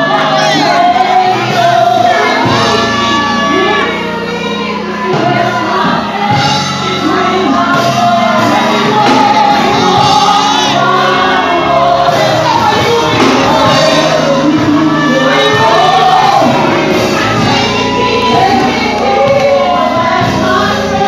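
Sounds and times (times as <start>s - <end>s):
backing singers: 0.0s - 21.0s
music: 0.0s - 21.0s
woman singing lead: 0.0s - 21.0s.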